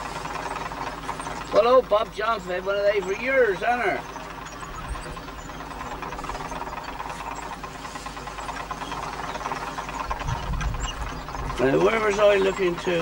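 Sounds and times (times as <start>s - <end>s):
elevator machinery clatter: 0.0s - 13.0s
tractor engine running: 0.0s - 13.0s.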